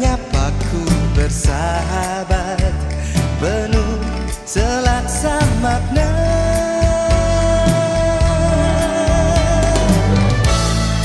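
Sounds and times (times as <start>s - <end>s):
pop song with singer and band: 0.0s - 11.0s.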